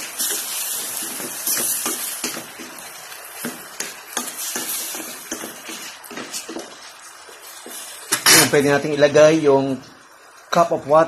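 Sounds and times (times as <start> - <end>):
meat sizzling in frying pan: 0.0 - 11.0.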